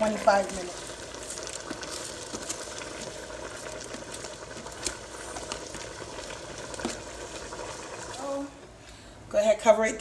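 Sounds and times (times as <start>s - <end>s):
broth bubbling in a pot: 0.0s - 10.0s.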